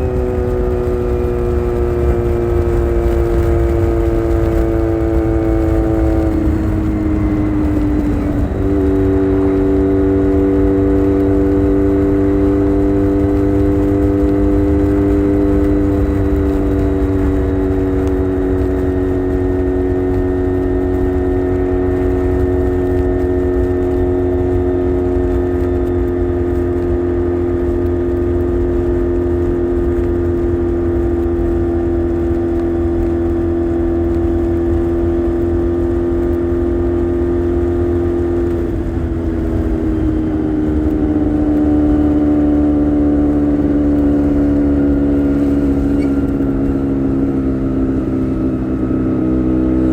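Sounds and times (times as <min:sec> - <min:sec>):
motorcycle engine running: 0:00.0 - 0:49.9
wind and road noise rumble: 0:00.0 - 0:49.9.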